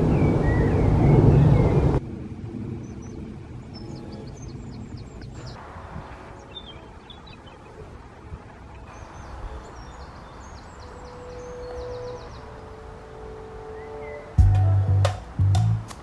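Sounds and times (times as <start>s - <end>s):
songbird chirping: 0.0s - 2.0s, 2.8s - 16.0s.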